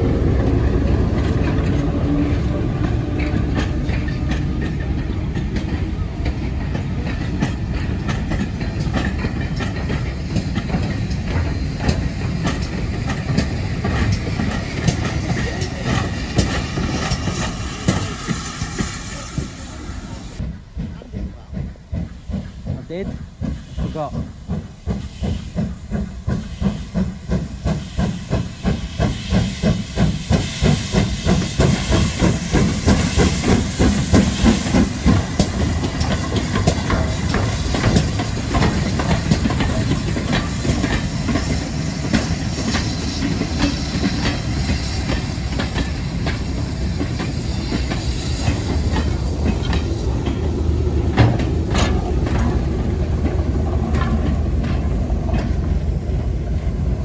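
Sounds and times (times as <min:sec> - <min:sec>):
steam locomotive exhaust beats: 0:00.0 - 0:57.0
train wheels clicking over rail joints: 0:00.0 - 0:57.0.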